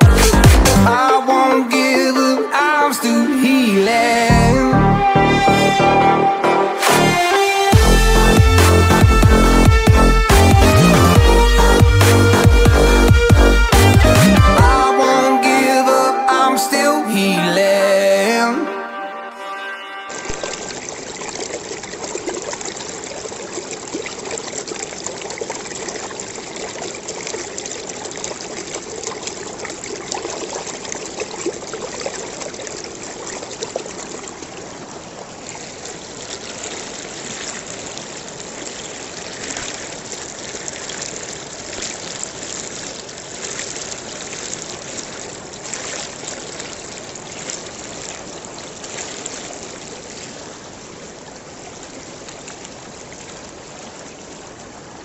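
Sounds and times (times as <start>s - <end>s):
stream trickling and splashing: 0.0s - 4.4s, 6.8s - 55.0s.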